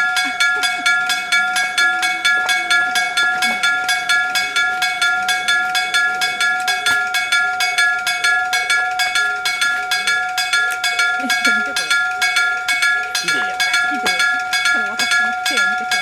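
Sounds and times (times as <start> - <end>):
level crossing warning bell ringing: 0.0 - 16.0.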